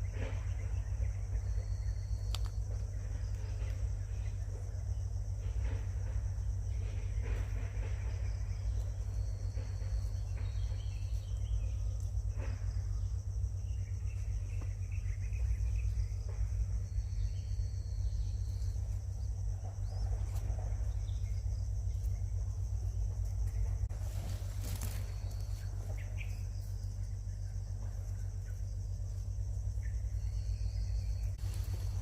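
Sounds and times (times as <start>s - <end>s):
insects droning: 0.0s - 32.0s
low rumble: 0.0s - 32.0s.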